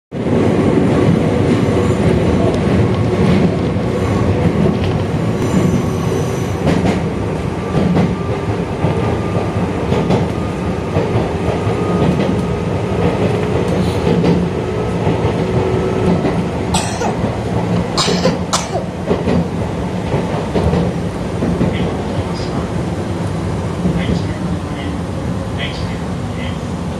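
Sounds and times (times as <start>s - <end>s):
train wheels rumbling on rail: 0.1s - 26.9s.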